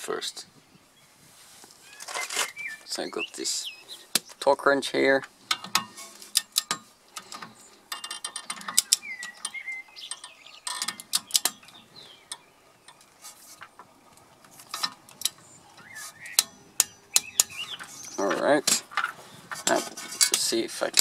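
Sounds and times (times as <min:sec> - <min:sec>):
birds chirping: 0:00.0 - 0:20.8.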